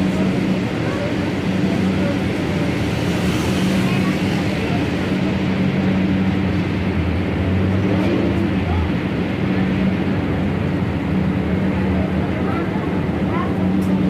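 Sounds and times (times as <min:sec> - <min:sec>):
light-rail car running hum: 0:00.0 - 0:14.0
wheels rumbling on rails: 0:00.0 - 0:14.0.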